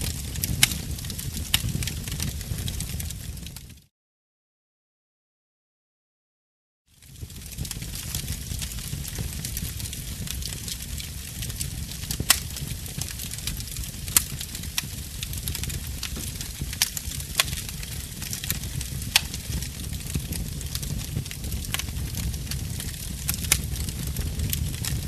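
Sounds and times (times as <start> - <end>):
fireplace fire crackling: 0.0 - 3.9, 6.9 - 25.0.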